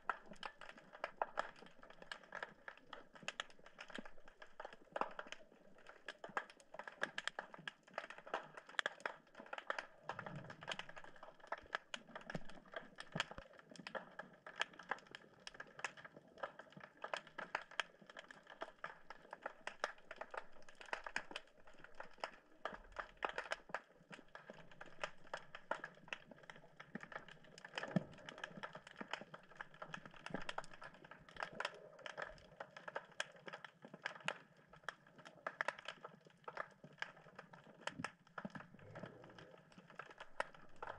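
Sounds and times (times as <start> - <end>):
snapping shrimp clicks underwater: 0.0 - 40.9.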